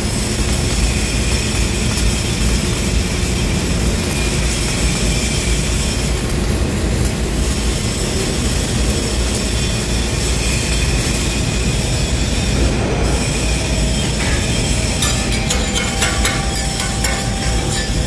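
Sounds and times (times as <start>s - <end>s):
loud workshop noise: 0.0s - 18.0s
welding arc crackling hiss: 0.0s - 18.0s.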